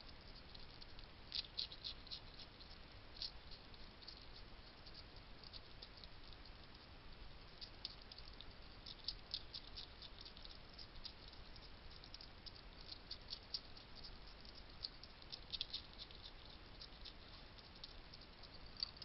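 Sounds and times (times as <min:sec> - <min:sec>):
hedgehog crunching food: 0:00.0 - 0:19.0.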